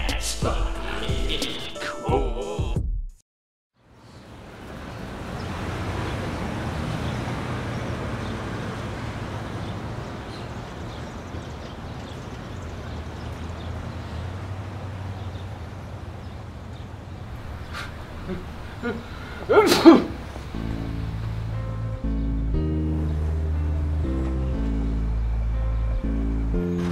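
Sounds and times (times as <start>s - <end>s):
road traffic rumble: 3.8s - 26.9s.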